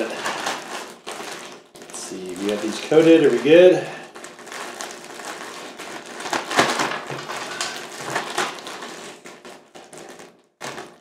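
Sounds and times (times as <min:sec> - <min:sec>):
food squishing in a bag: 0:00.0 - 0:11.0
plastic bag crinkling: 0:00.0 - 0:11.0.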